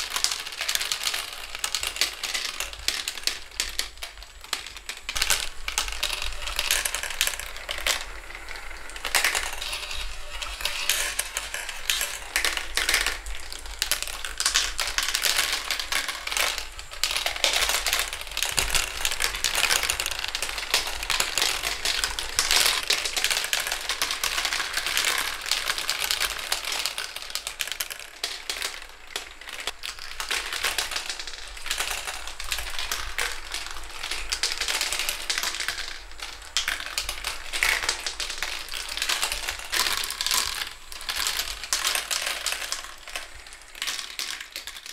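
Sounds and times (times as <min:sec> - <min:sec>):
marbles rattling through plastic run: 0:00.0 - 0:44.9.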